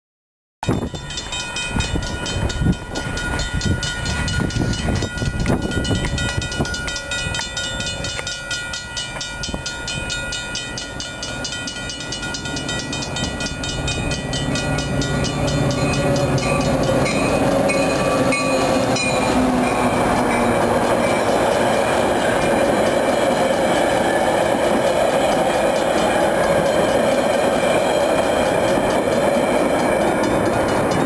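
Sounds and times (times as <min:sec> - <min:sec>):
crossing bell ringing: 0:00.6 - 0:31.0
diesel train rumbling: 0:00.6 - 0:31.0.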